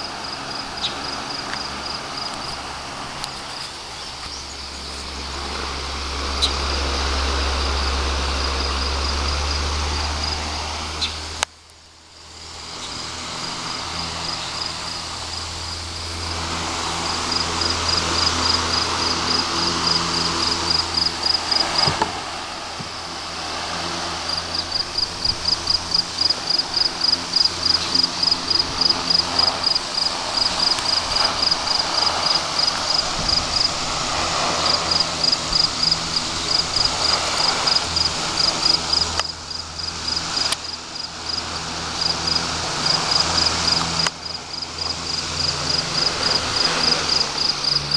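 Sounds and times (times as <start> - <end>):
insect chirping: 0.0 - 2.7, 3.3 - 5.4, 6.2 - 16.3, 17.1 - 47.9
electric fan running: 0.0 - 47.9.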